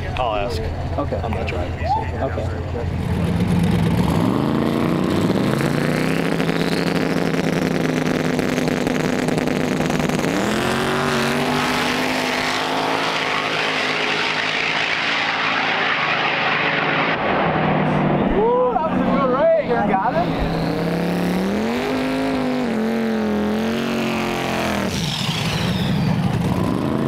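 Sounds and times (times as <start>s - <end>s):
drag racing car engine revving: 0.0s - 27.0s
cars accelerating hard: 2.7s - 27.0s.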